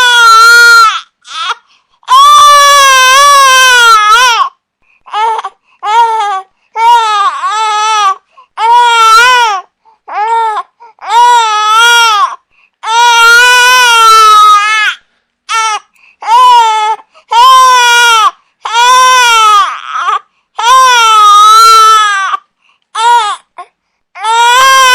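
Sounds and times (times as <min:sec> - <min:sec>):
baby crying: 0:00.0 - 0:24.9.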